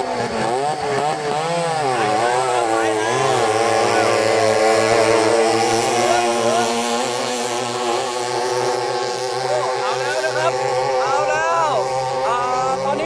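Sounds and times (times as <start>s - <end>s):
racing boat engines: 0.0s - 13.0s
steady low hum: 0.0s - 13.0s.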